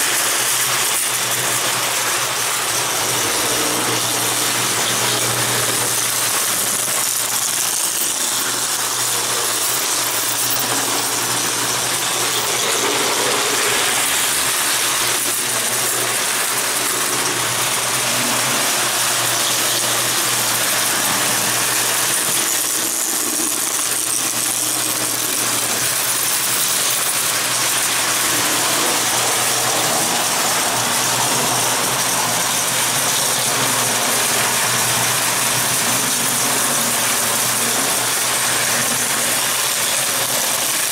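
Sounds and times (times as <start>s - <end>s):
toy train motors whirring: 0.0s - 40.9s
wheels rattling on rails: 0.0s - 40.9s.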